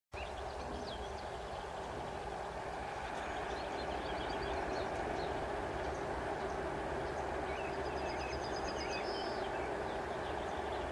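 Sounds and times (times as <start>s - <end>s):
faint constant hum: 0.2s - 10.9s
small birds chirping: 0.2s - 10.9s.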